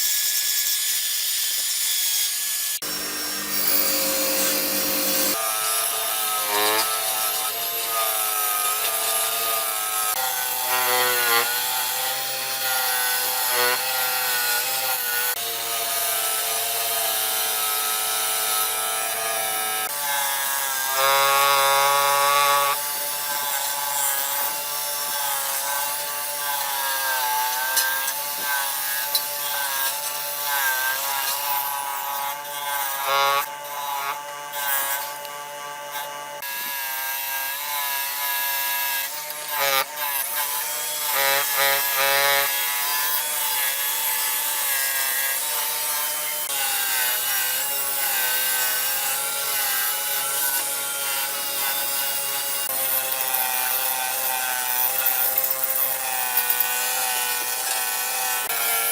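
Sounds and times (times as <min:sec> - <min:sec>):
power tool whining: 0:00.0 - 0:58.9.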